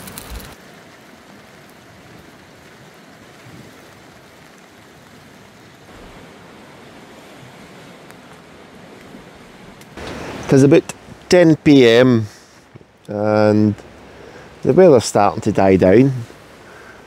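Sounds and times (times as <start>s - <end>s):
rain and wind on a tarp: 0.0s - 17.0s.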